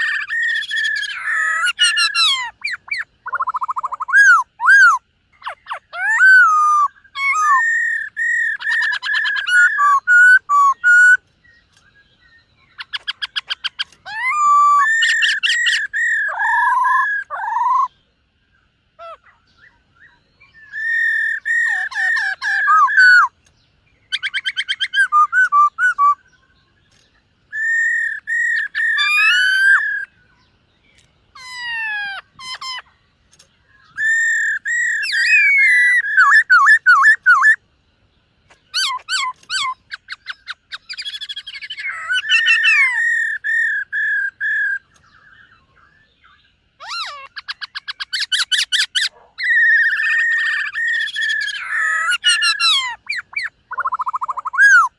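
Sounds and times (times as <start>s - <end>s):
bird whistling and trilling: 0.0s - 11.7s, 12.3s - 18.0s, 19.0s - 23.4s, 24.0s - 30.2s, 33.8s - 37.6s, 38.6s - 54.9s.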